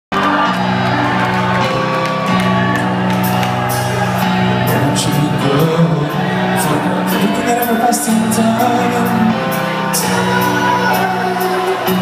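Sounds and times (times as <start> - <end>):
live rock band playing: 0.1 - 12.0.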